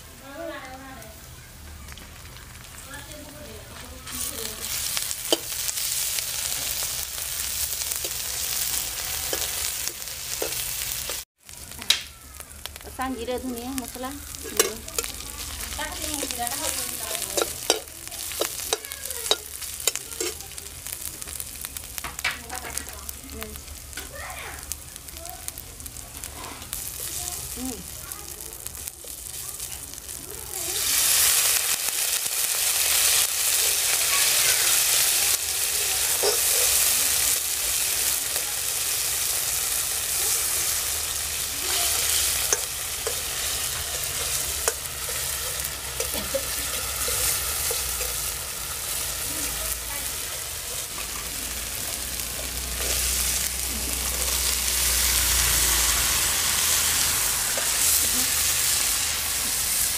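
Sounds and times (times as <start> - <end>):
onion sizzling in hot oil: 0.0 - 59.9.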